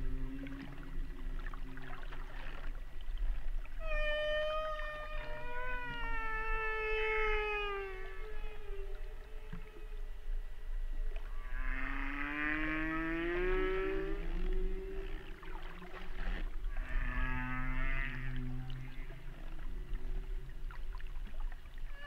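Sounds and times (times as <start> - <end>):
low steady hum: 0.0 - 22.0
whale song calls: 0.0 - 22.0.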